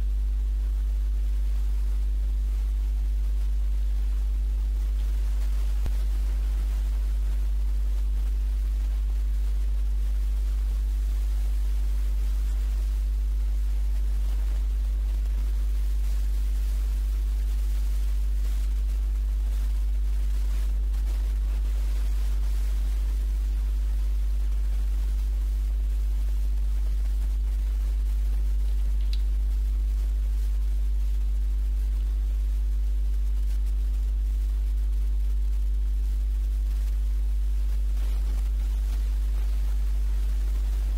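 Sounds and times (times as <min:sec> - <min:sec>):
electrical mains hum: 0:00.0 - 0:40.9
faint hiss: 0:00.0 - 0:40.9.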